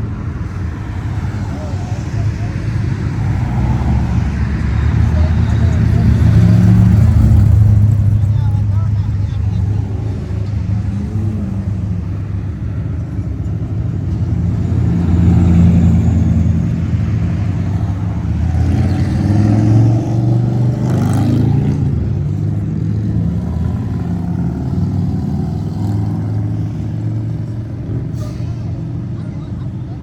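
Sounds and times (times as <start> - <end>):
car engines rumbling past: 0.0 - 30.0.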